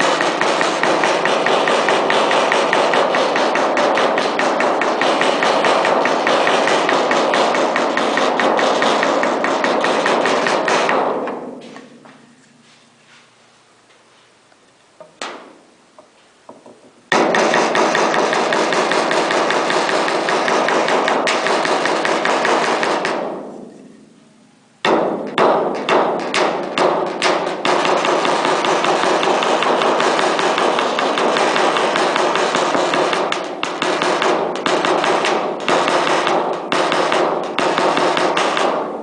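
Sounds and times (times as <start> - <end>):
rapid hammering on metal: 0.0 - 11.6, 16.5 - 23.5, 24.8 - 39.0.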